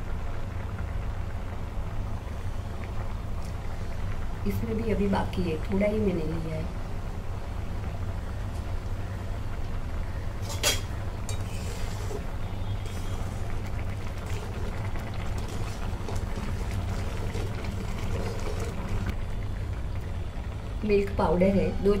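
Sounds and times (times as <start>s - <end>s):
milk bubbling at a boil: 0.0s - 22.0s
steady low hum: 0.0s - 22.0s.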